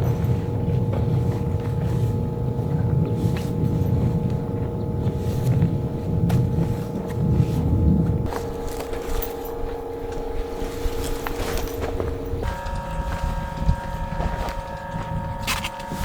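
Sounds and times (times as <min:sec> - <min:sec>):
motor rumbling with whine: 0:00.0 - 0:16.0.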